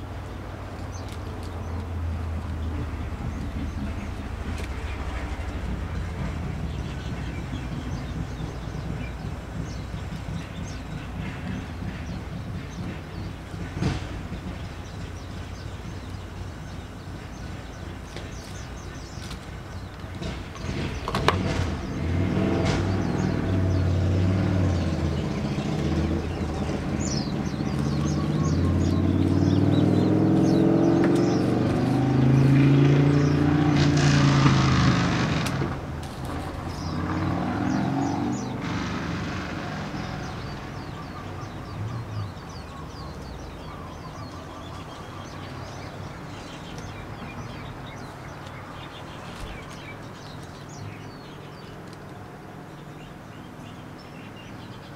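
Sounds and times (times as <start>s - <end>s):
vehicle engine running: 0.0s - 51.7s
small birds chirping: 0.0s - 54.9s.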